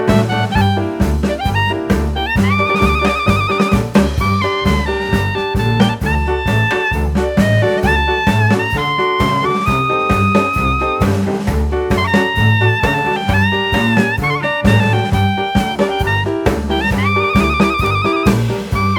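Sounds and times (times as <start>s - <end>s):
jazz music: 0.0s - 18.9s.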